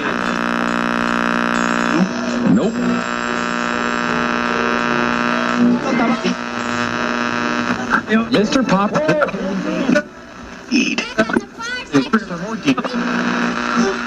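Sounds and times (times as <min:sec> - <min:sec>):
loud steady buzzing hum: 0:00.0 - 0:14.0.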